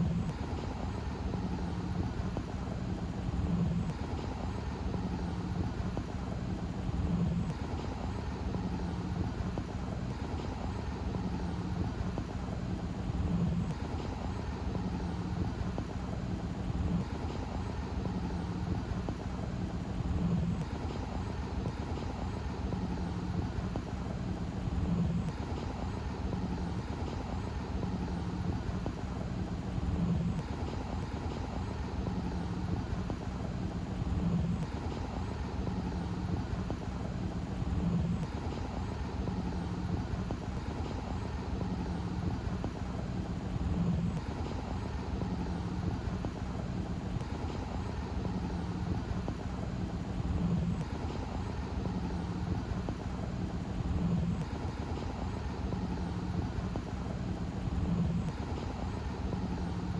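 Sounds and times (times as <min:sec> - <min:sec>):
low rumble of running vehicles: 0:00.0 - 0:59.9.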